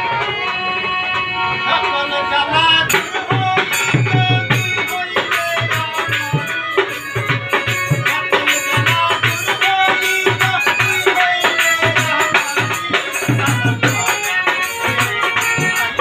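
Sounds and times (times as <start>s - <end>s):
harmonium: 0.0s - 16.0s
rattling percussion: 2.7s - 16.0s
steady drum beat: 2.9s - 16.0s.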